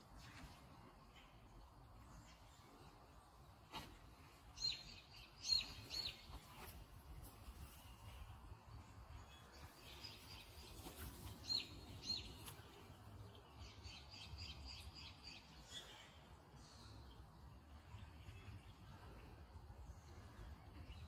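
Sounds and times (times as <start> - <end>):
small birds chirping: 1.0 - 21.0.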